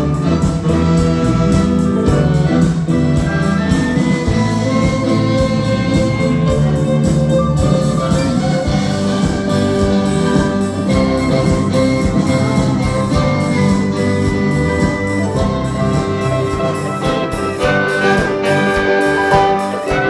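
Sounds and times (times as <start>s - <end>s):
cello: 0.0s - 20.0s
flutes: 0.0s - 20.0s
saxophone: 0.0s - 20.0s
steady percussion beat: 0.0s - 20.0s
trombone: 0.0s - 20.0s
violins: 0.0s - 20.0s.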